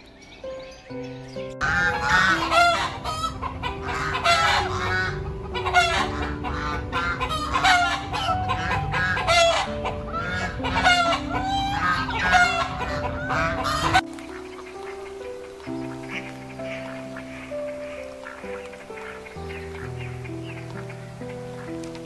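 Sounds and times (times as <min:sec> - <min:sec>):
poultry calling: 0:00.0 - 0:22.0
soft background music: 0:00.0 - 0:22.0.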